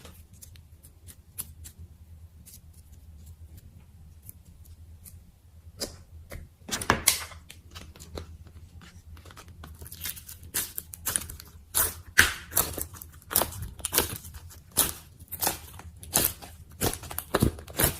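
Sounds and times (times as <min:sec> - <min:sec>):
slime squishing: 0:00.0 - 0:17.9.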